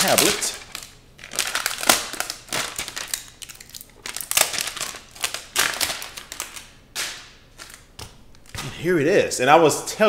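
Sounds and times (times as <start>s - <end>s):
plastic film crinkling: 0.0s - 8.9s.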